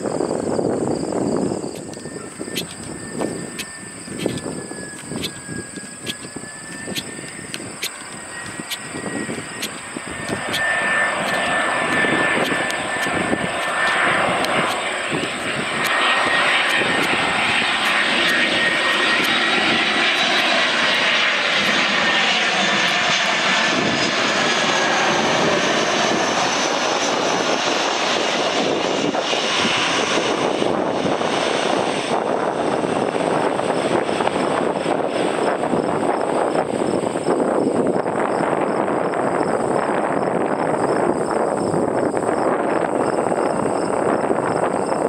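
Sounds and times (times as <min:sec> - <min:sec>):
high fan whine: 0:00.0 - 0:45.0
jet airliner engines rushing: 0:00.0 - 0:45.0.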